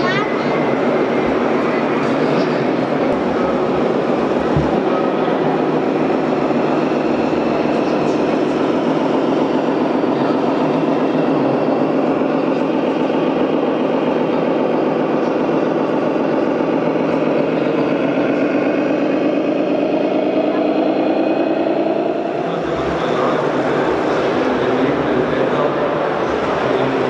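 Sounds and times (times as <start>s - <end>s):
model vehicle engines droning: 0.0s - 27.0s.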